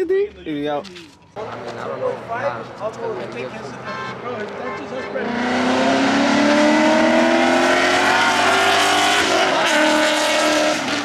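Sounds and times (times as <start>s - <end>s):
car engines racing at full throttle: 1.4s - 11.0s.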